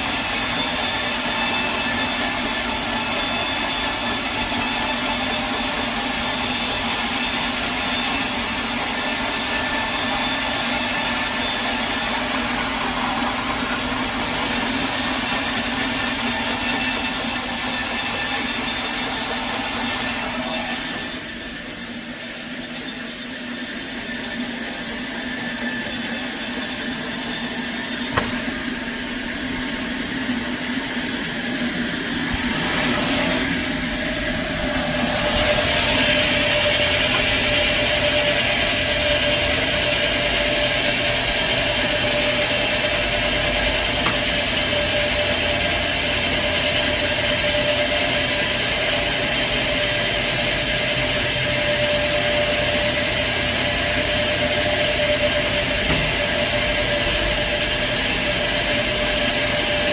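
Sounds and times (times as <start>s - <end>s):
saw cutting through log: 0.0s - 59.9s
sawmill machinery running: 0.0s - 59.9s
steady machine whine: 0.0s - 59.9s.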